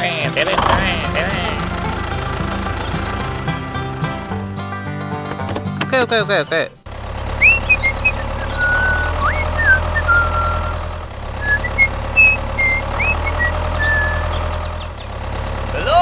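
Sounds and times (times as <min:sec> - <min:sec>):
tractor engine idling: 0:00.0 - 0:16.0
birdsong chirps: 0:00.5 - 0:04.7, 0:05.9 - 0:16.0.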